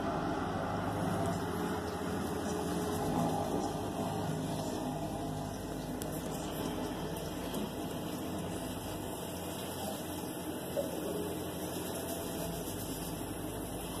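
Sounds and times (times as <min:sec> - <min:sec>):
muffled diesel truck driving past: 0:00.0 - 0:14.0
room hum and hiss: 0:00.0 - 0:14.0.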